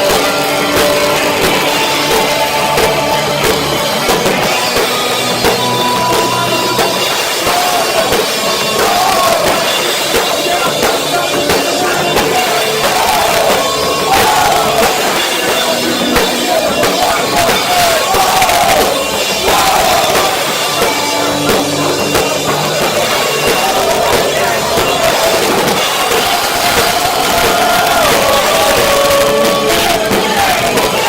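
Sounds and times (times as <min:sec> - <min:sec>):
drums: 0:00.0 - 0:31.0
person singing: 0:00.0 - 0:31.0
rock band playing live: 0:00.0 - 0:31.0.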